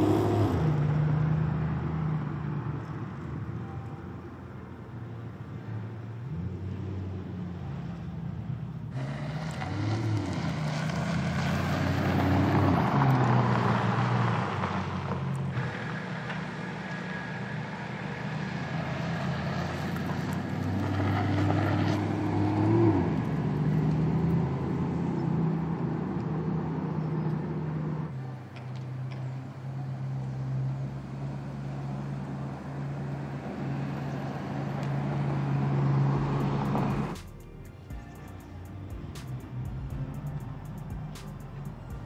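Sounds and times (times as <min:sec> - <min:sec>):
car engine revving at low speed: 0:00.0 - 0:02.9, 0:06.1 - 0:28.1, 0:30.3 - 0:42.0.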